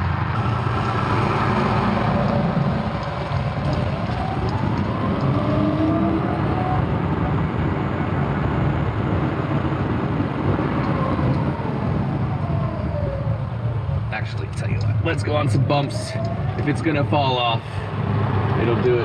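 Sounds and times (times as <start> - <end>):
wind and road noise: 0.0 - 19.0.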